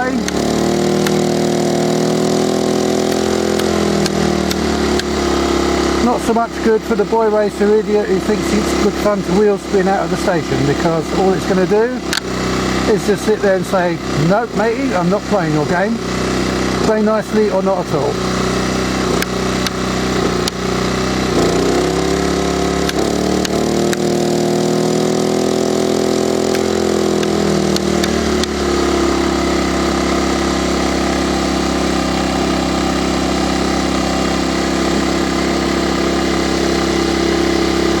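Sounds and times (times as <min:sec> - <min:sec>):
generator engine running: 0:00.0 - 0:38.0.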